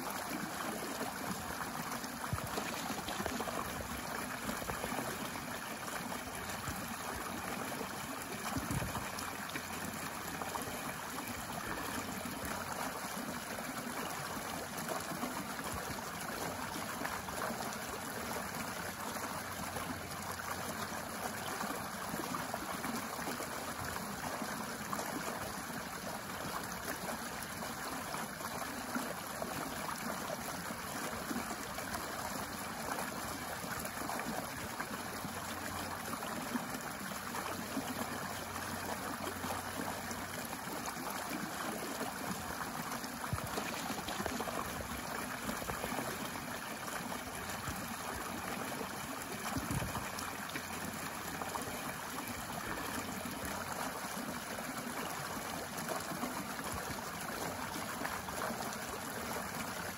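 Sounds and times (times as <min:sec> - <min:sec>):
stream rushing over cascade: 0:00.0 - 0:59.9.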